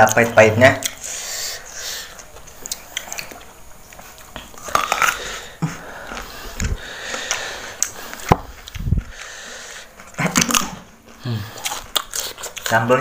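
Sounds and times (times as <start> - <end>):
crisp biting and chewing: 2.1 - 12.9.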